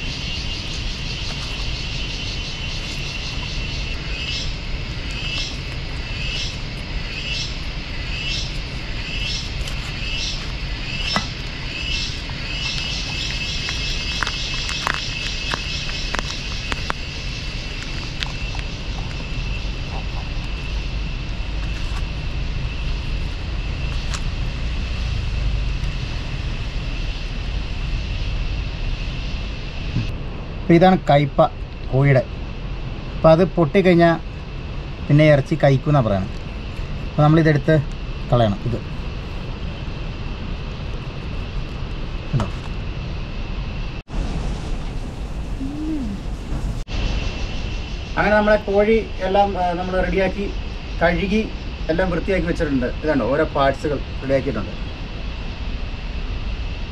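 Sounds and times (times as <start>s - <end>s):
insects buzzing: 0.0s - 56.9s
steady low rumble: 0.0s - 56.9s.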